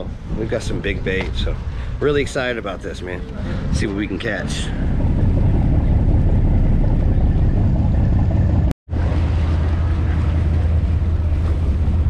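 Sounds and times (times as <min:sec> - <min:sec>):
boat engine rumbling: 0:00.0 - 0:12.0
water rushing: 0:00.0 - 0:12.0
wind on microphone: 0:00.0 - 0:12.0.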